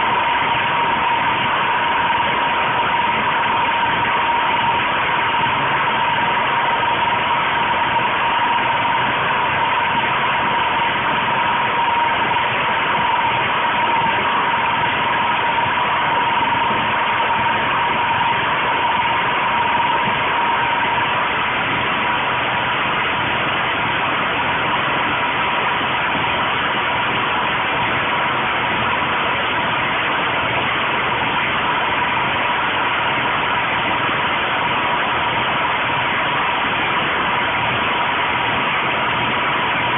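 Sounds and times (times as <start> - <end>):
generator engine running: 0.0 - 39.9
steady high whine: 0.0 - 39.9.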